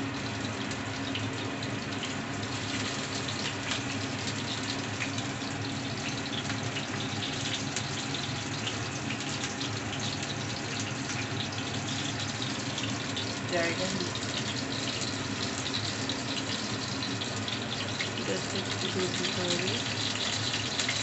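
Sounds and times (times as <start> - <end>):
fish frying in oil: 0.0 - 21.0.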